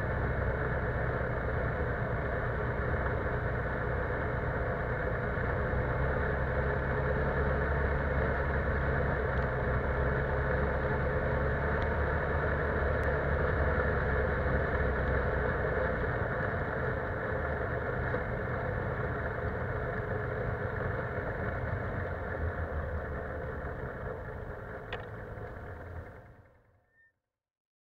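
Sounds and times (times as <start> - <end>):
quad engine running: 0.0 - 26.7.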